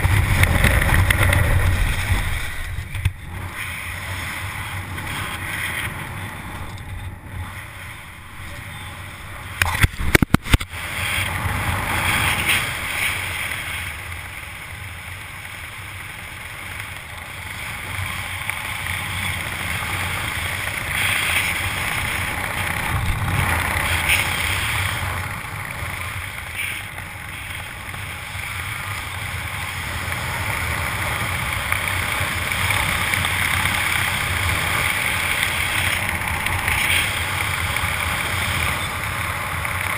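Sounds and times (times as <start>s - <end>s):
wind rushing over microphone: 0.0s - 14.0s, 18.7s - 39.9s.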